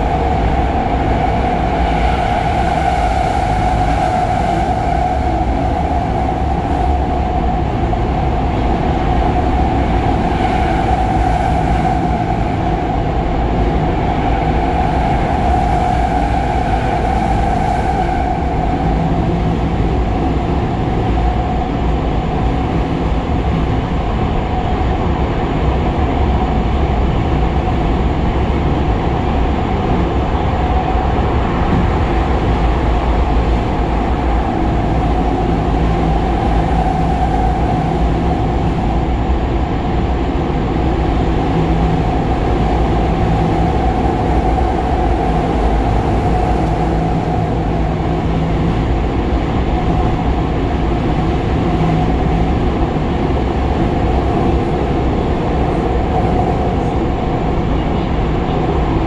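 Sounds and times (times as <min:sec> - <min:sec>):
steady train whine: 0:00.0 - 0:59.0
train wheels rumbling on rail: 0:00.0 - 0:59.0.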